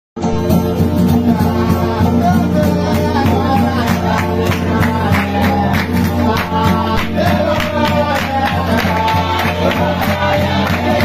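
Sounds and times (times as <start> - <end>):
men singing together: 0.2 - 11.0
strummed string instruments: 0.2 - 11.0.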